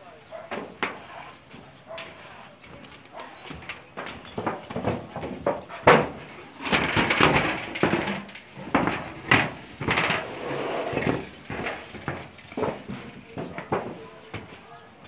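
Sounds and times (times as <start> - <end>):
metal roofing sheets banging: 0.0 - 15.0.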